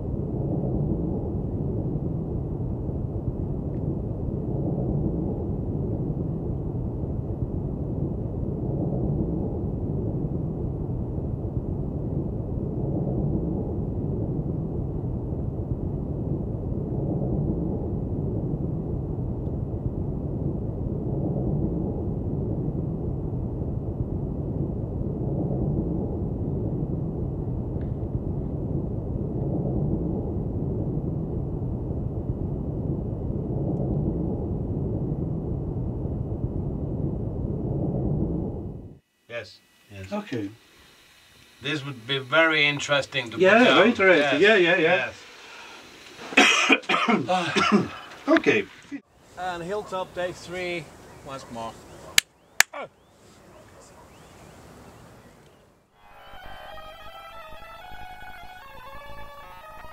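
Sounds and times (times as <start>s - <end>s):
low rumbling hiss: 0.0s - 52.1s.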